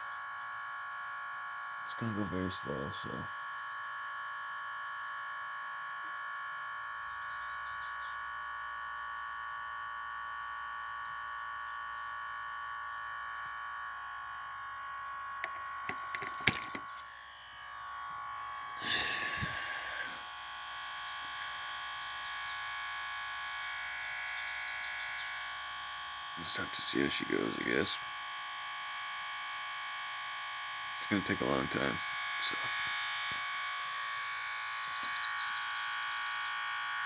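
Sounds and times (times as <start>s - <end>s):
high electrical whine: 6.6s - 37.0s.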